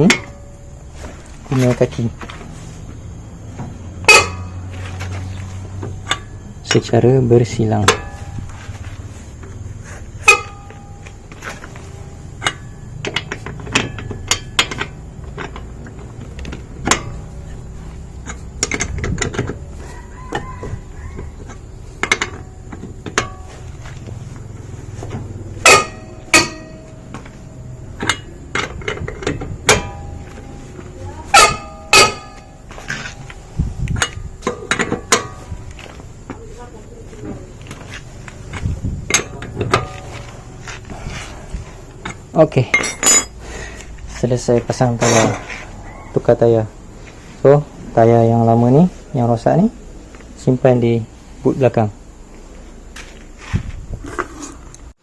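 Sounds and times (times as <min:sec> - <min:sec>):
wheel brace clanking on wheel nuts: 0:00.0 - 0:50.9
low steady rumble: 0:00.0 - 0:55.0.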